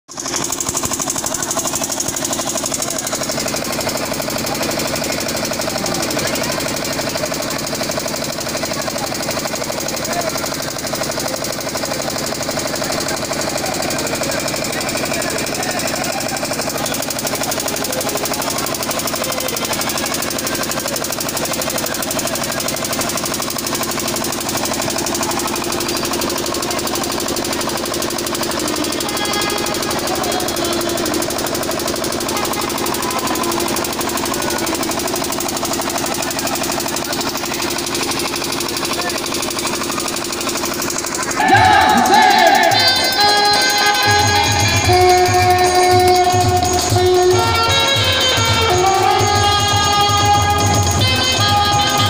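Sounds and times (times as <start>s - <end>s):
drum roll: 0.1s - 52.0s.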